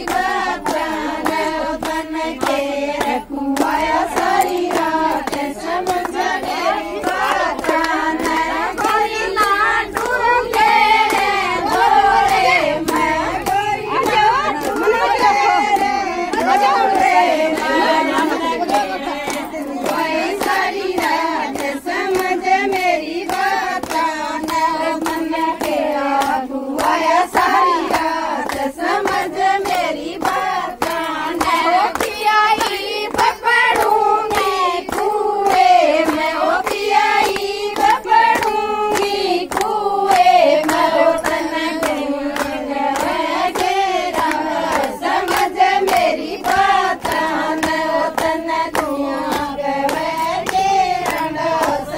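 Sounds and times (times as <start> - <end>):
rhythmic hand clapping: 0.0 - 51.9
women singing folk song: 0.0 - 51.9.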